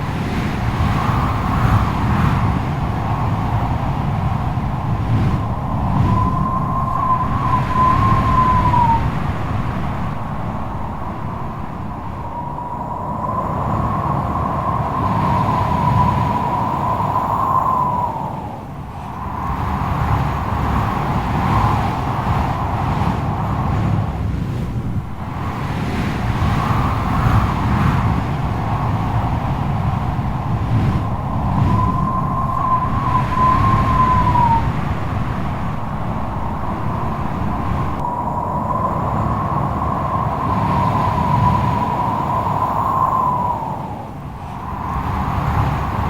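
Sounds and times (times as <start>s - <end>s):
howling wind whistle: 0.0s - 46.0s
strong wind gusting: 0.0s - 46.0s.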